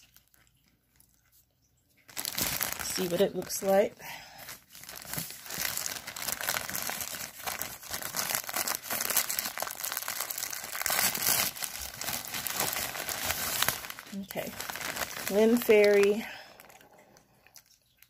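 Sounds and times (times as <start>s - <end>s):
plastic bag crinkling: 2.0s - 18.0s.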